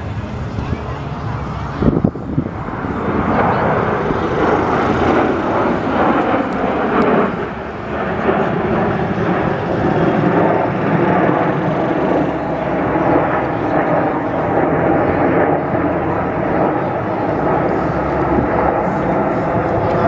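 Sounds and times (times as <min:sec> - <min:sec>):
fighter jets roaring past: 0:00.0 - 0:20.0.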